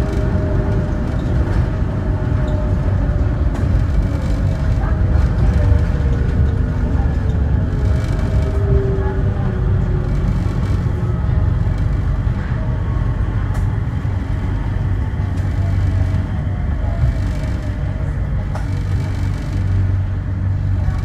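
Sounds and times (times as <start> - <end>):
train rumbling on guideway: 0.0 - 21.0.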